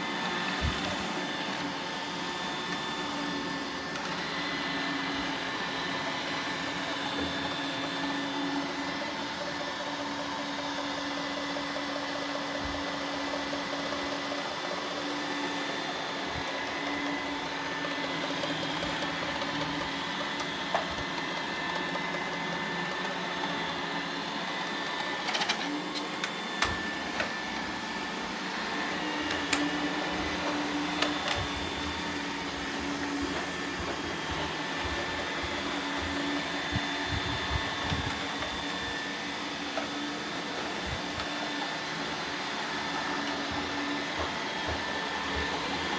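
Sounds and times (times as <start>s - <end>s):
robot vacuum motor humming: 0.0s - 45.9s.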